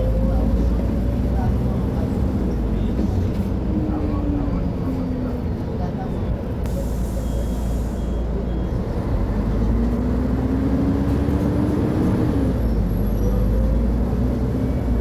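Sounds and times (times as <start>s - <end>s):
bus diesel engine under load: 0.0s - 15.0s.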